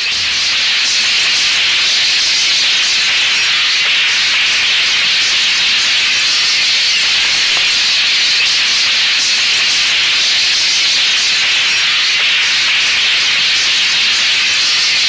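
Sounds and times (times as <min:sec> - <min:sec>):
loud steady hissing: 0:00.0 - 0:15.0.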